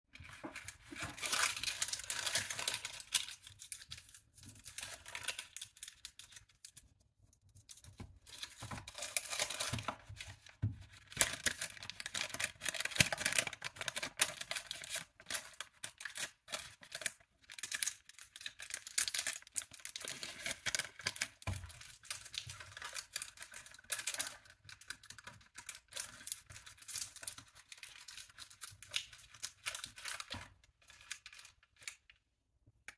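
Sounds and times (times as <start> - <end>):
baking paper crinkling: 0.1 - 32.2.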